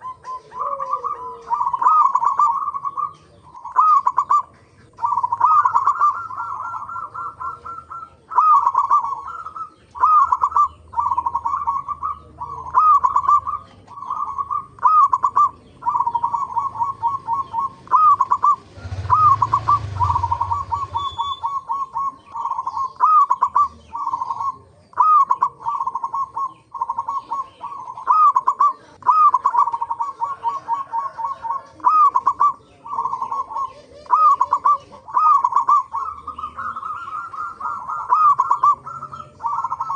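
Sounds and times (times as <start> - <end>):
dove cooing trills: 0.0 - 39.9.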